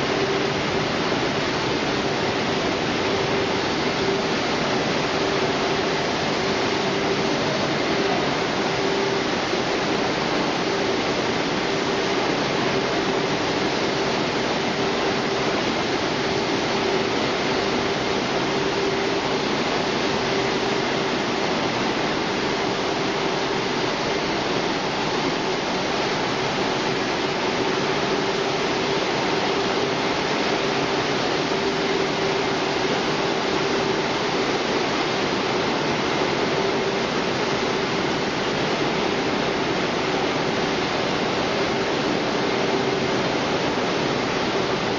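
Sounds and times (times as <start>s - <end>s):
constant machine hum: 0.0s - 44.9s
production line machinery noise: 0.0s - 44.9s.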